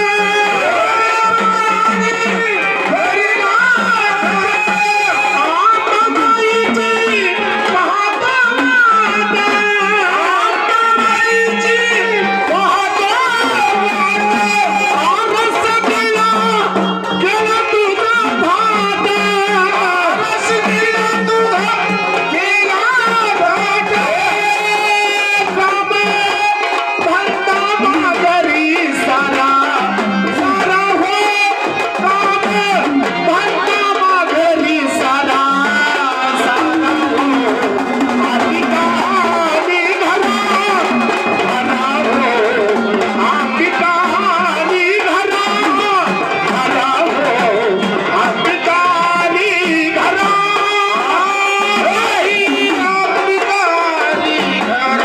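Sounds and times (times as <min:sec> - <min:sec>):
hand drum rhythm: 0:00.0 - 0:55.0.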